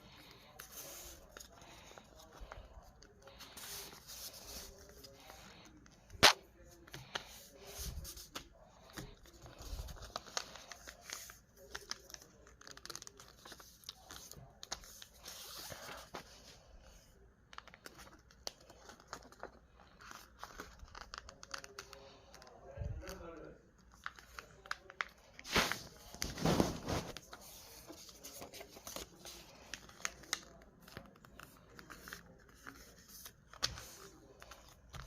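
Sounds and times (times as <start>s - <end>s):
paper crinkling and rustling: 0.0s - 16.6s, 17.6s - 23.2s, 23.8s - 35.0s.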